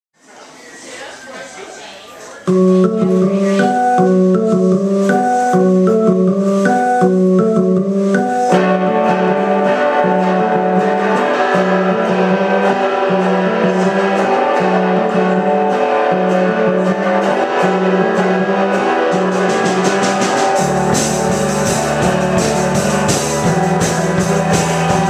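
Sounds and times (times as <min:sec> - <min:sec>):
drums: 0:02.4 - 0:25.0
organ-like keyboard riff: 0:02.4 - 0:25.0
bouncing bass line: 0:02.5 - 0:25.0
electric guitar: 0:02.5 - 0:25.0.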